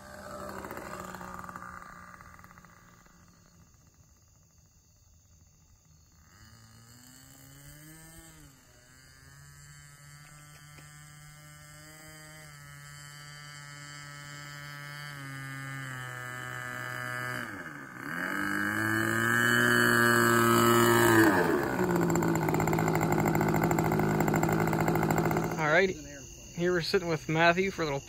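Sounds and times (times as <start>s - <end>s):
model airplane engine buzzing: 0.0s - 28.0s.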